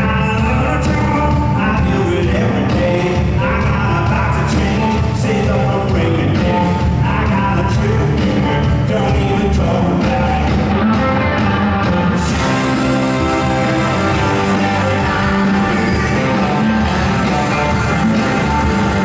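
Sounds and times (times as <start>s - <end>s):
person singing: 0.0s - 10.8s, 12.2s - 19.0s
bass: 0.0s - 19.0s
drums: 0.0s - 19.0s
electric guitars: 0.0s - 19.0s.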